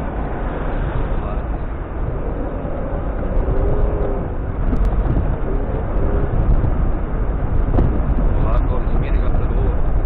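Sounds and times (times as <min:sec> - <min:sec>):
engine and tyres rumbling: 0:00.0 - 0:10.0.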